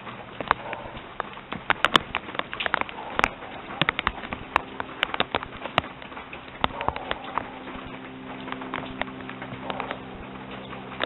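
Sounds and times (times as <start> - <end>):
light rain patter: 0.0 - 11.0
raindrops tapping close: 0.0 - 11.0.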